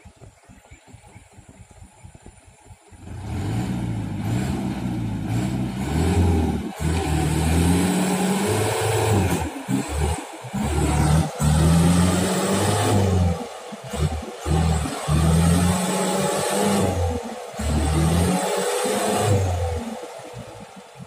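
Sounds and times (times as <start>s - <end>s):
truck diesel engine revving: 0.0s - 21.0s.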